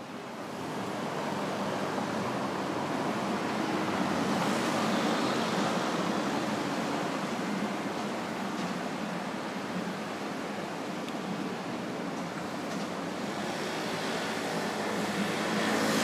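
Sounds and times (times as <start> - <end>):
road traffic rush: 0.0 - 16.0.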